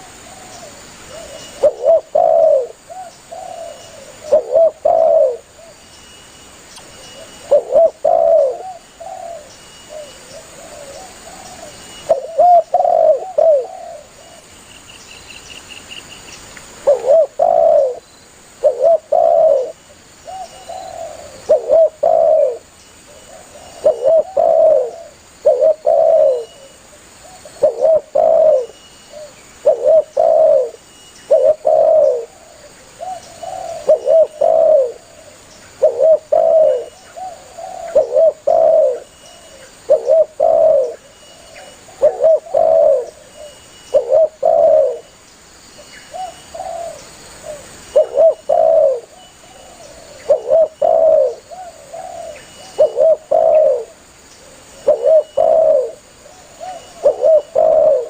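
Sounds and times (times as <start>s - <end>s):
dove cooing: 0.0s - 5.8s, 7.2s - 14.5s, 16.8s - 18.0s, 18.6s - 45.1s, 46.1s - 58.0s.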